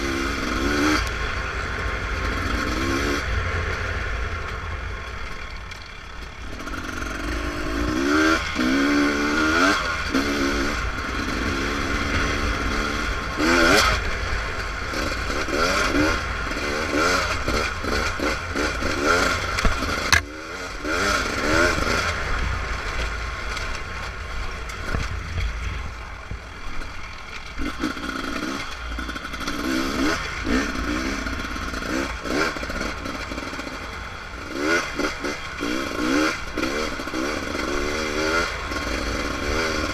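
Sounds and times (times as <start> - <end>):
dirt bike engine revving: 0.0 - 4.6, 5.3 - 25.6, 26.8 - 39.9.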